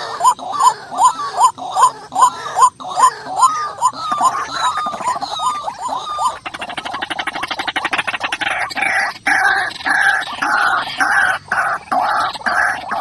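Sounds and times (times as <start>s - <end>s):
waterhen calling: 0.0s - 13.0s.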